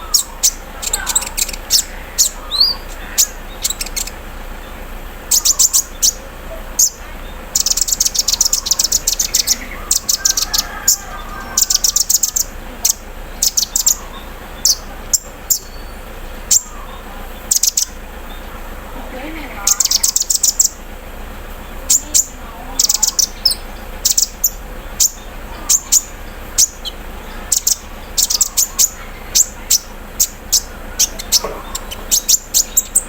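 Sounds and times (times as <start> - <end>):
bird chipping notes: 0.0 - 33.0.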